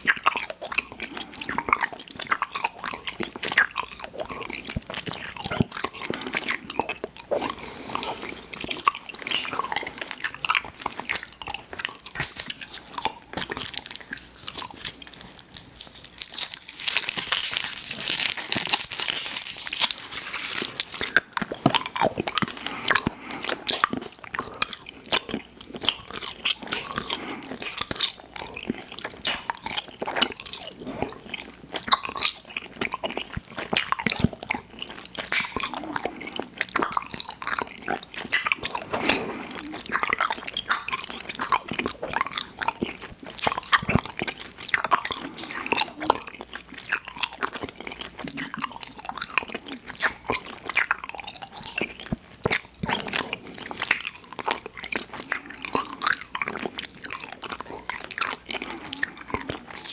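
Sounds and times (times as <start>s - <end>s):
chewing and crunching candy: 0.0s - 59.9s.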